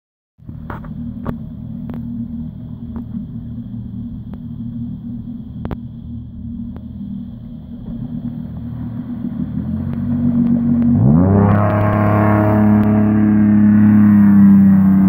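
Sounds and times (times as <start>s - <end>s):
boat engine idling: 0.4s - 15.0s.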